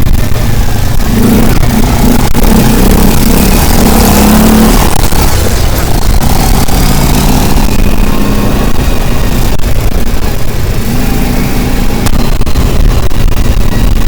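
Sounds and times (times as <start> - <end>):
vehicle engine running: 0.0 - 14.0
wind or road noise: 0.0 - 14.0.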